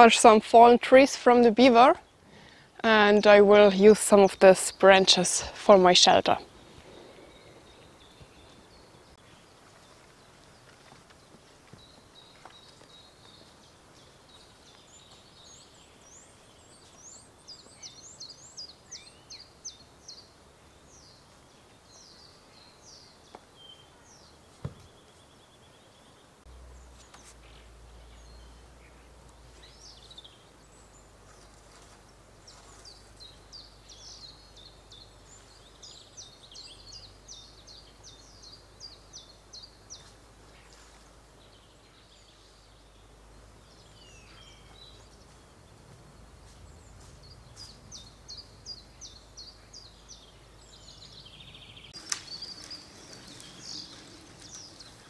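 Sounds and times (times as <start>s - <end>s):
faint outdoor ambience: 0.0s - 55.0s
songbird singing: 0.0s - 55.0s.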